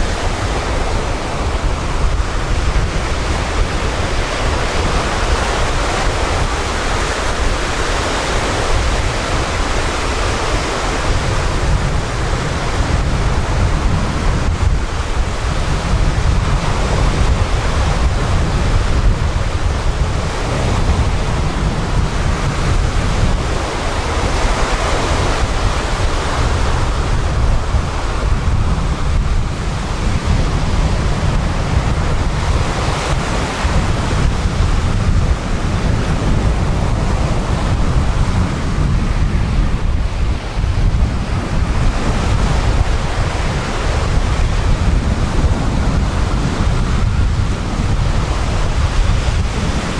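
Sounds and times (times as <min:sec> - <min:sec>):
surf washing on pebbles: 0:00.0 - 0:49.9
wind buffeting microphone: 0:00.0 - 0:49.9.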